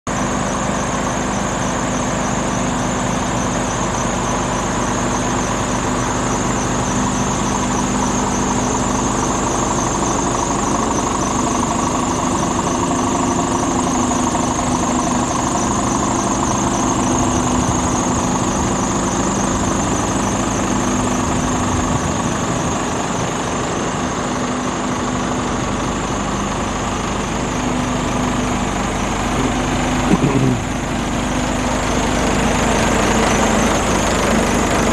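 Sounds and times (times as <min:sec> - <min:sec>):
diesel truck engine idling: 0:00.1 - 0:34.9
high whine: 0:00.1 - 0:34.9.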